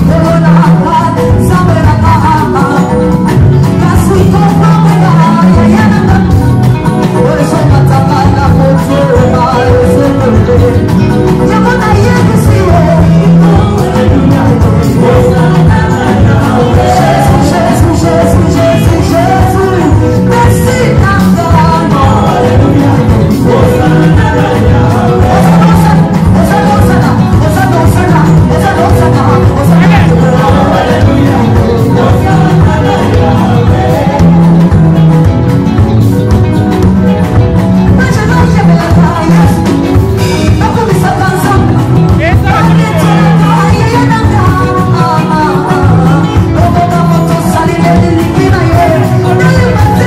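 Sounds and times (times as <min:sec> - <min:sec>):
loud music with singing: 0:00.0 - 0:50.0
plucked bass line: 0:00.0 - 0:50.0.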